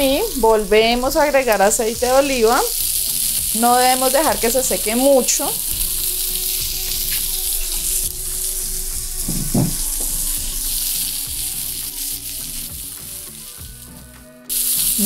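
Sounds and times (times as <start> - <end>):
broccoli sizzling in oil: 0.0 - 15.0.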